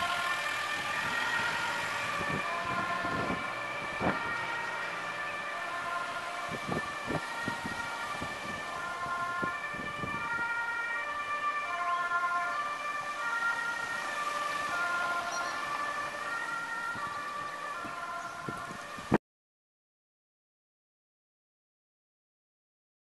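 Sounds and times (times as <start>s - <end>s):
two-tone ambulance siren: 0.0s - 19.2s.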